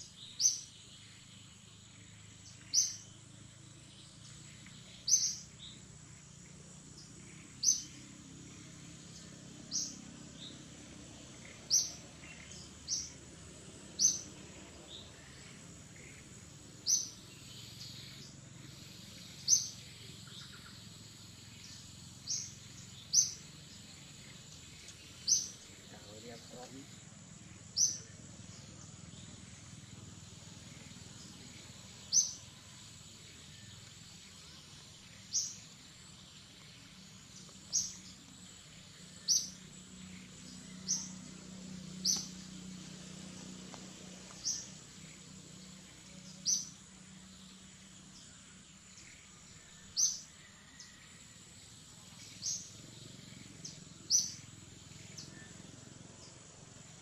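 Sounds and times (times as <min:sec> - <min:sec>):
bird chirping: 0:00.0 - 0:57.0
high insect whine: 0:00.0 - 0:57.0
low forest hum: 0:00.0 - 0:57.0.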